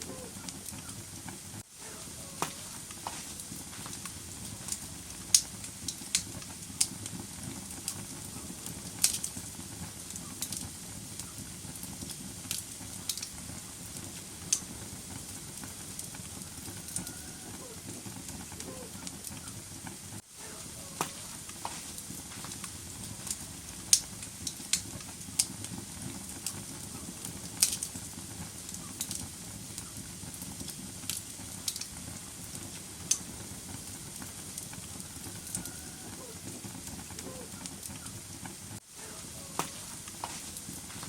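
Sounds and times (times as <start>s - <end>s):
burning logs crackling and popping: 0.0s - 41.0s
low rumble of flames: 0.0s - 41.0s.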